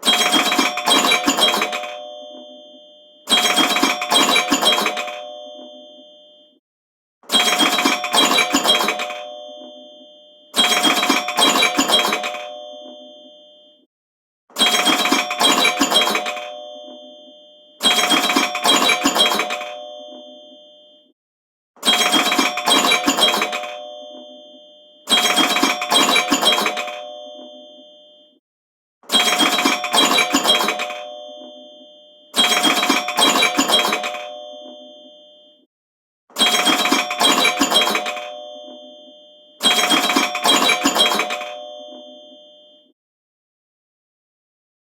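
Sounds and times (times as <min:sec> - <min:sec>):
phone alarm chiming ringtone: 0:00.0 - 0:06.6, 0:07.4 - 0:13.9, 0:14.6 - 0:21.1, 0:21.9 - 0:28.4, 0:29.2 - 0:35.7, 0:36.4 - 0:43.0.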